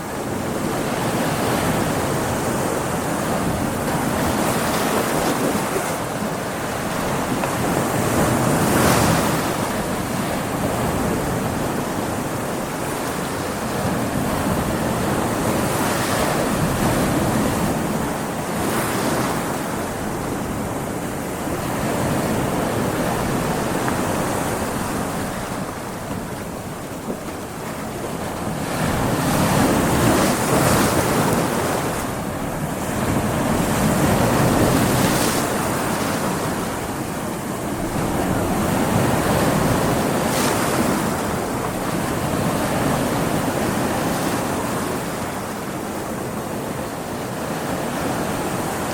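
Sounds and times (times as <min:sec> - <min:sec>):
heavy waves breaking: 0:00.0 - 0:48.9
wind rushing over water: 0:00.0 - 0:48.9.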